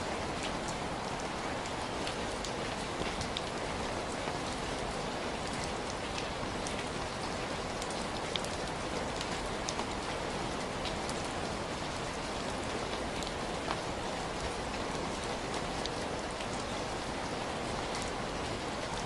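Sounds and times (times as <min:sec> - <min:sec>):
heavy rain: 0:00.0 - 0:19.0
raindrops pattering on a surface: 0:00.0 - 0:19.0.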